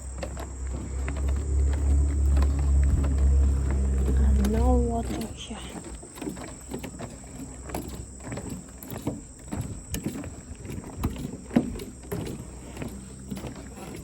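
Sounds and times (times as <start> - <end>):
footsteps on wooden boards: 0.0 - 14.0.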